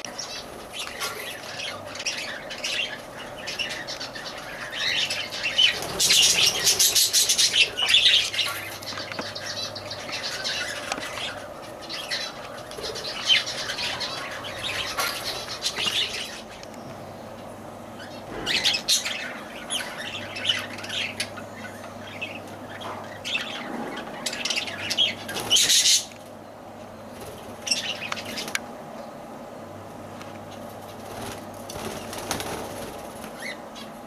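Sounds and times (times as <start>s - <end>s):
lovebirds chirping and squawking: 0.0s - 34.0s.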